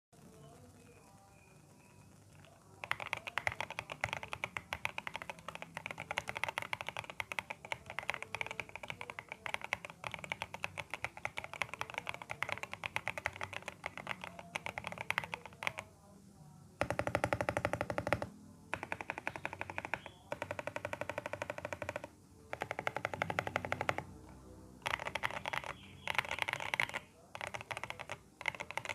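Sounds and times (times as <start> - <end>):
mechanical keyboard typing: 2.1 - 16.0, 16.8 - 28.9.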